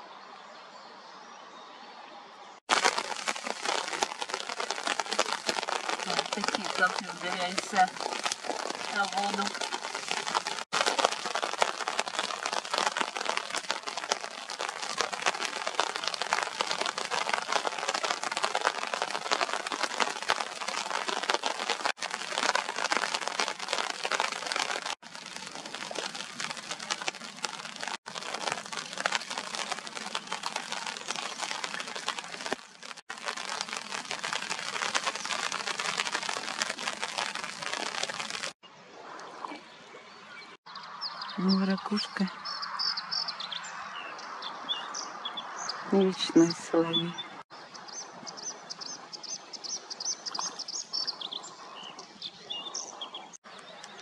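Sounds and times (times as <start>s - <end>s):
rain falling on water: 2.6s - 54.0s.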